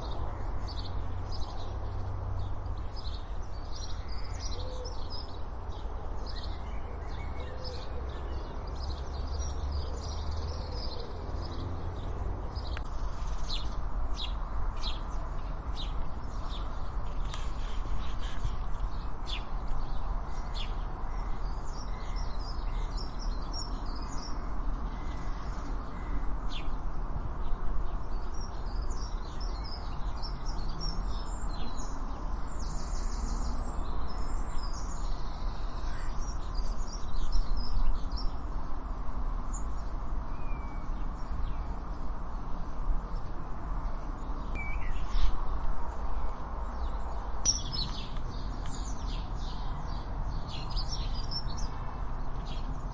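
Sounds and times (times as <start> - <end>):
outdoor background noise: 0.0 - 52.9
small birds chirping and twittering: 0.0 - 52.9.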